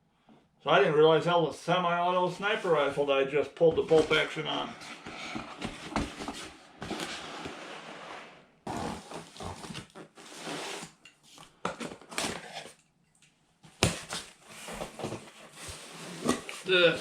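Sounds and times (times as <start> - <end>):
rustling of boxes and packaging: 2.3 - 12.9, 13.6 - 17.0.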